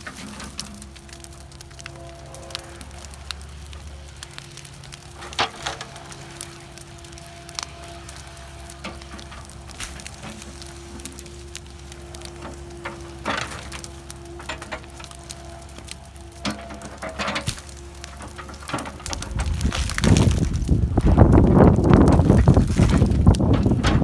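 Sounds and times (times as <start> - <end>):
excavator engine running: 0.0 - 24.0
fire crackling and popping: 0.0 - 24.0.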